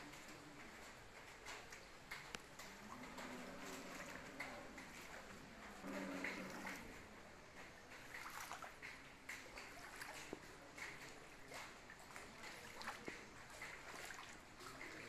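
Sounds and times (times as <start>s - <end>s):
floodwater running and sloshing: 0.0s - 15.0s
small water splashes: 1.4s - 15.0s.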